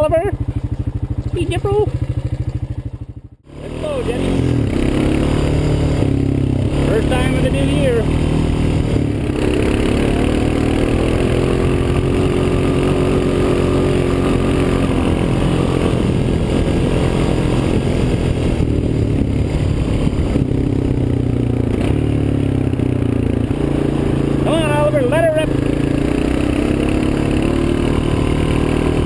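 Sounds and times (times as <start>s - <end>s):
quad bike engine running: 0.0s - 29.0s.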